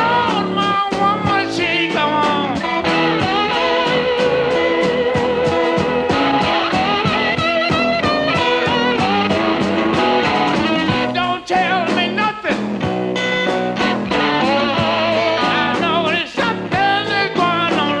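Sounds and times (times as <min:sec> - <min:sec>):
drums: 0:00.0 - 0:18.0
lead electric guitar: 0:00.0 - 0:18.0
rhythm guitar: 0:00.0 - 0:18.0.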